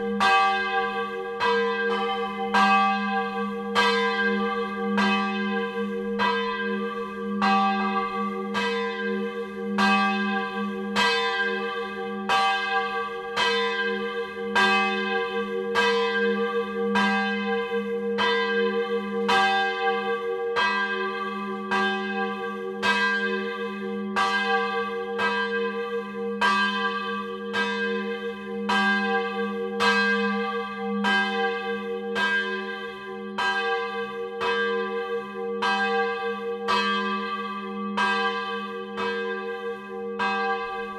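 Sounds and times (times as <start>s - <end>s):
church bell ringing: 0.0s - 40.9s.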